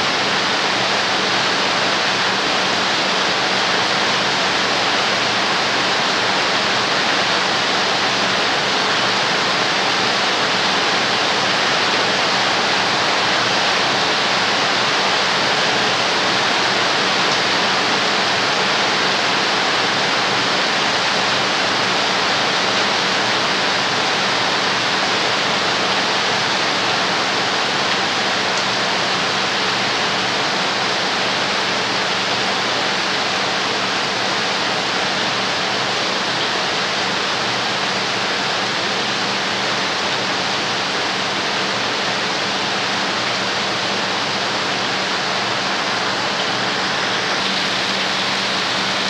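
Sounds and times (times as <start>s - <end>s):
heavy rain on a metal roof: 0.0s - 49.0s
water pouring off eaves: 0.1s - 49.0s.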